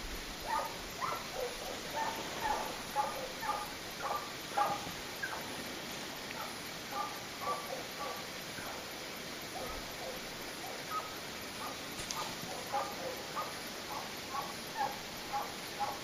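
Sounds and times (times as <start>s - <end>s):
distant hound baying: 0.4s - 5.6s, 6.3s - 8.9s, 9.5s - 16.0s.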